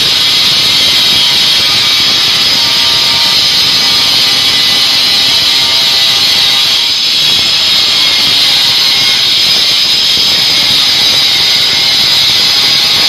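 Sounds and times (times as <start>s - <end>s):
angle grinder grinding stone: 0.0s - 13.0s.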